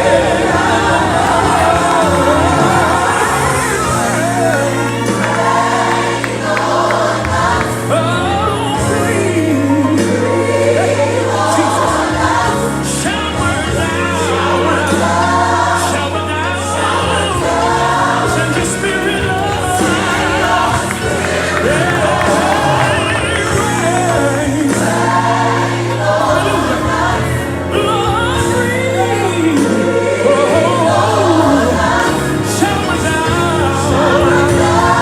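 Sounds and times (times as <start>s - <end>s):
band accompaniment with bass: 0.0s - 35.0s
choir singing: 0.0s - 35.0s.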